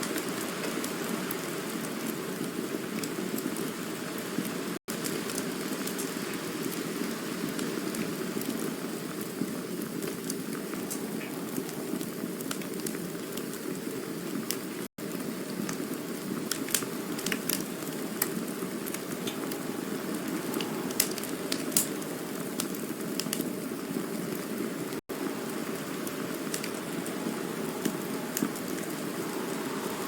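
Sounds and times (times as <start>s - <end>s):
burning wood crackling and popping: 0.0s - 30.0s
campfire hissing: 0.0s - 30.0s.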